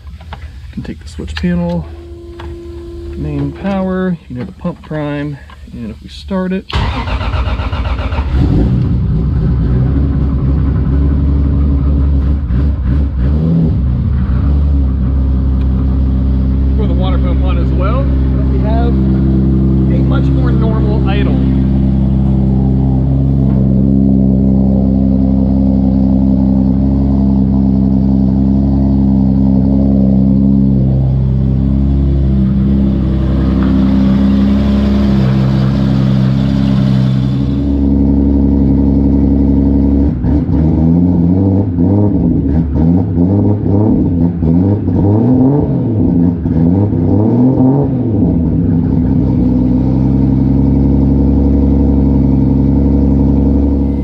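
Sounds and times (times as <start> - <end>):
car engine idling: 0.0 - 45.0, 47.9 - 54.0.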